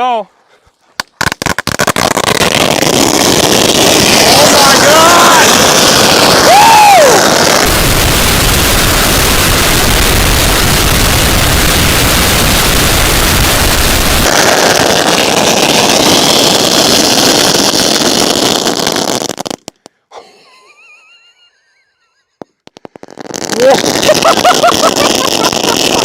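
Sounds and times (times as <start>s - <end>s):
firecrackers crackling: 1.0s - 20.0s, 22.4s - 26.0s.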